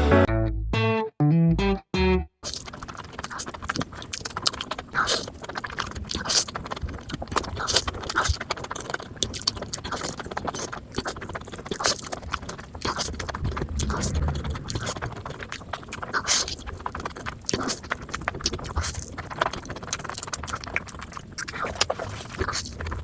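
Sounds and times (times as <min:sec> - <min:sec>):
person chewing noodles: 0:02.4 - 0:23.0
small clicking and scraping: 0:02.4 - 0:23.0.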